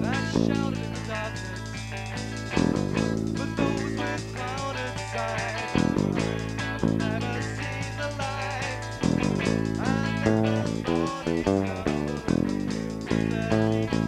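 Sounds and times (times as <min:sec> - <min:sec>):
bass guitar: 0:00.0 - 0:14.0
electric guitar: 0:00.0 - 0:14.0.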